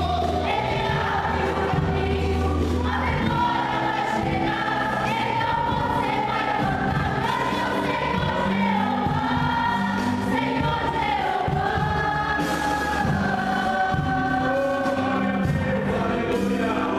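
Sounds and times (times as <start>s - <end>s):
bass and drums: 0.0s - 16.9s
gospel choir singing: 0.0s - 16.9s.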